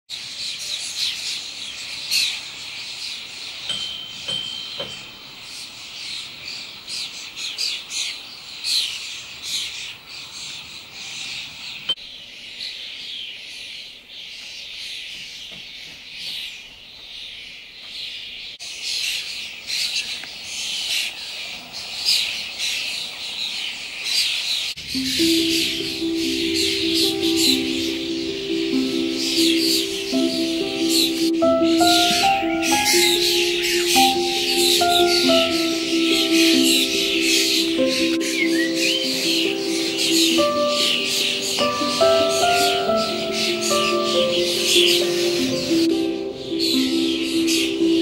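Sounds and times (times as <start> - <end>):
small birds chirping chorus: 0.1 - 48.0.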